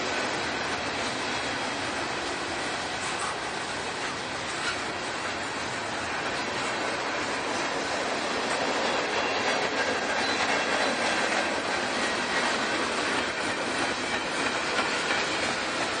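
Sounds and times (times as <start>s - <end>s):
clickety-clack over rail joints: 0.0s - 16.0s
steel wheels on rails: 0.0s - 16.0s.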